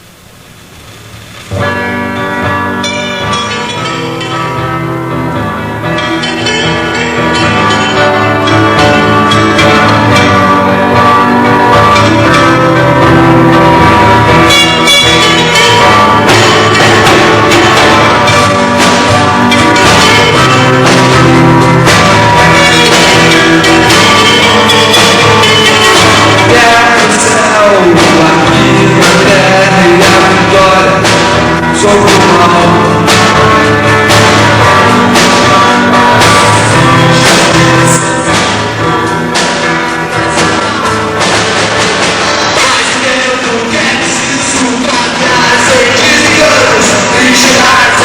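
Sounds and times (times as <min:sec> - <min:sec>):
drums: 0:00.0 - 0:48.0
electric guitar: 0:00.0 - 0:48.0
bass guitar: 0:01.1 - 0:48.0
rock band playing live: 0:01.4 - 0:48.0
person singing: 0:02.7 - 0:39.1, 0:42.3 - 0:48.0.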